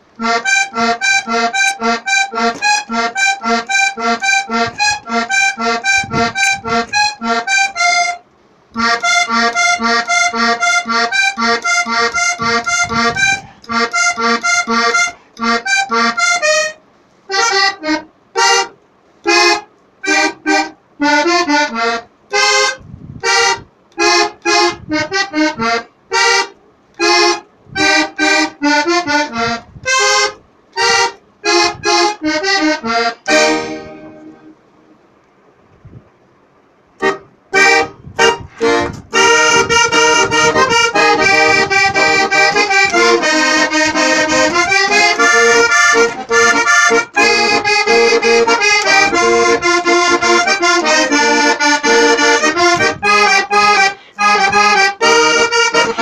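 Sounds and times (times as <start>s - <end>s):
solo accordion playing: 0.0s - 35.1s, 37.0s - 56.0s.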